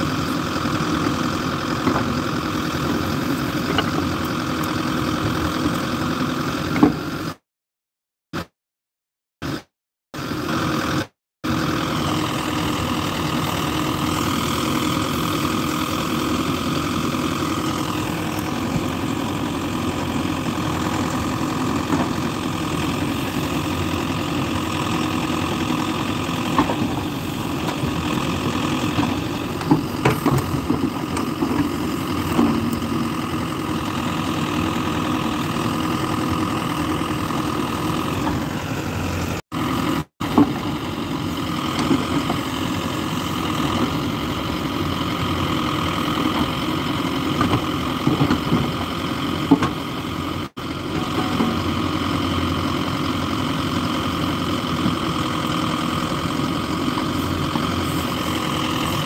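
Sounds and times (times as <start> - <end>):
diesel engine running: 0.0 - 7.4, 10.2 - 59.0.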